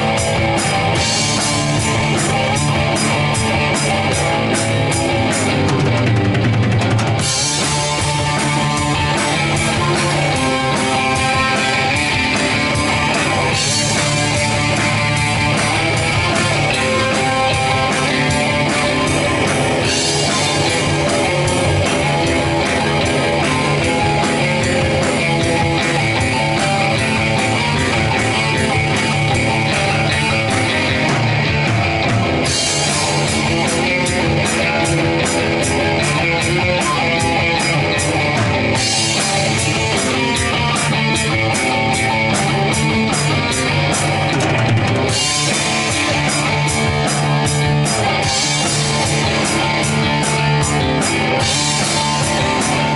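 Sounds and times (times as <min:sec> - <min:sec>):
drum kit: 0:00.0 - 0:52.9
guitar: 0:00.0 - 0:52.9.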